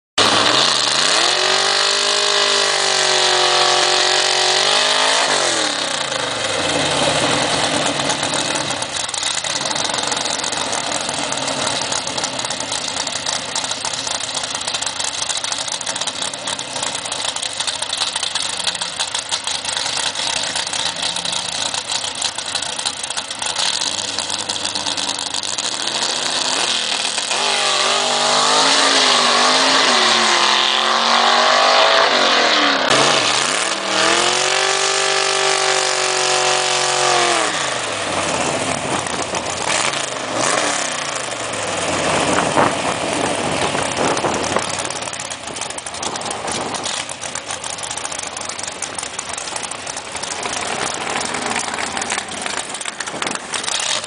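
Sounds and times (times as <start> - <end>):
car engine revving: 0.2 - 54.0
tyres spinning in burnout: 0.2 - 54.0.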